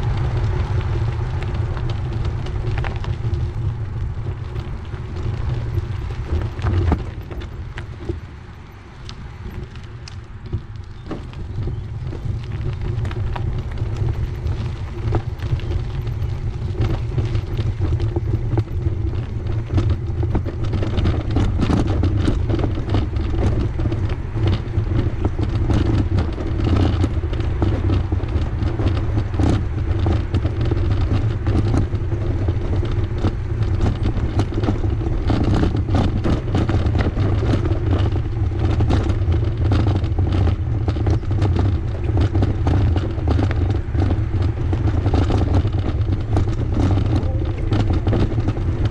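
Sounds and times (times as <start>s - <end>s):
bicycle rolling rumble: 0.0s - 48.9s
small clicks and rattles: 0.0s - 48.9s.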